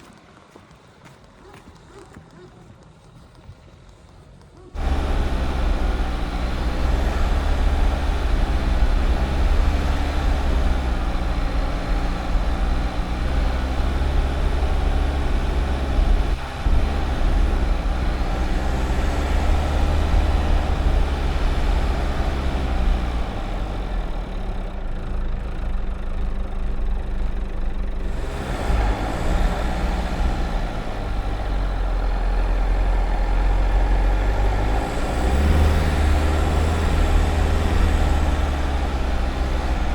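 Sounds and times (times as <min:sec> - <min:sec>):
diesel engine rumbling: 0:02.9 - 0:39.9.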